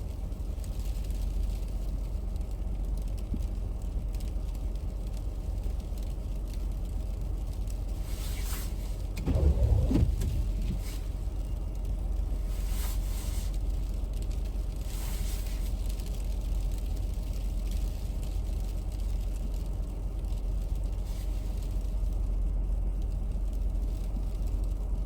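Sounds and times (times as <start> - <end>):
vehicle engine idling: 4.7 - 25.0.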